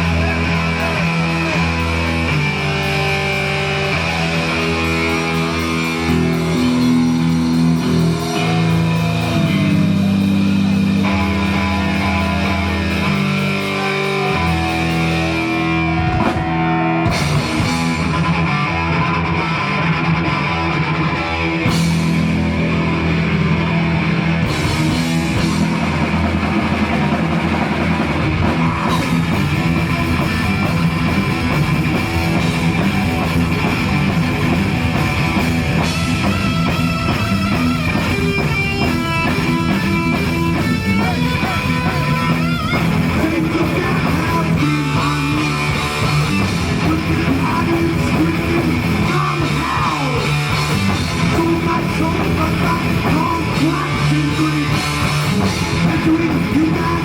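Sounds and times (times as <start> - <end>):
bass guitar: 0.0 - 57.0
distorted electric guitars: 0.0 - 57.0
lead guitar lines: 0.0 - 57.0
pounding drum kit: 0.0 - 57.0.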